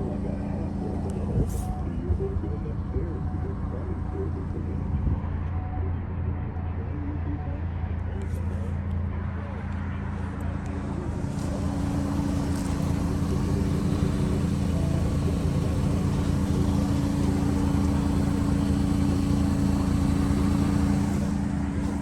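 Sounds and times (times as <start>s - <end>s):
road noise: 0.0s - 22.0s
truck engine humming: 0.0s - 22.0s.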